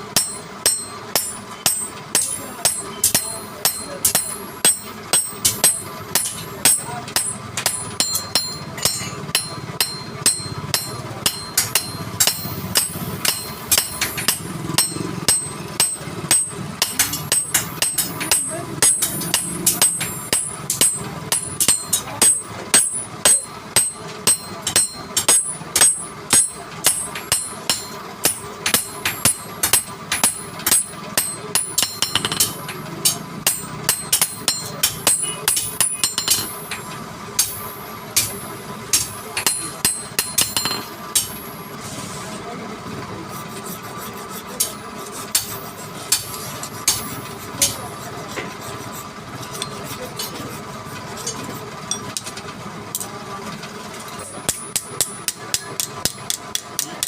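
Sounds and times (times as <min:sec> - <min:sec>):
hammer striking metal: 0:00.0 - 0:41.8, 0:44.1 - 0:53.2, 0:54.0 - 0:57.0.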